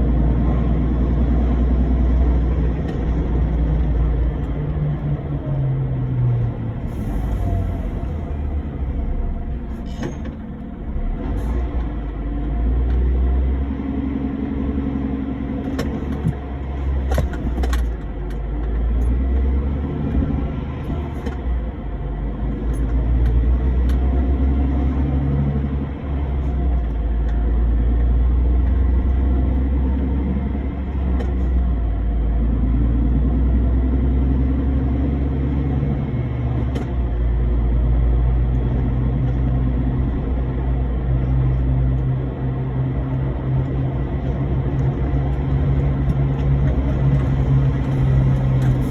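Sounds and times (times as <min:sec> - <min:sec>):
heavy truck driving: 0:00.0 - 0:48.9.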